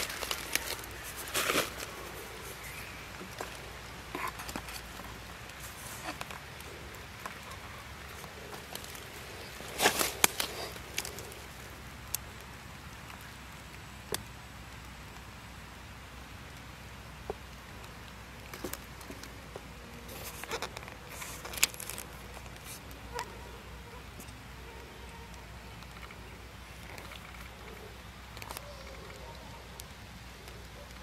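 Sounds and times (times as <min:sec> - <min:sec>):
dry leaves crackling and rustling: 0:00.0 - 0:13.4, 0:18.4 - 0:31.0
faint steady hiss: 0:00.0 - 0:31.0.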